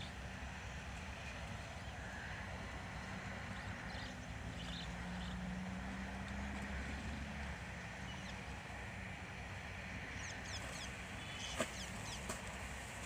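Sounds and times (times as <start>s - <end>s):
constant rushing background: 0.0s - 13.0s.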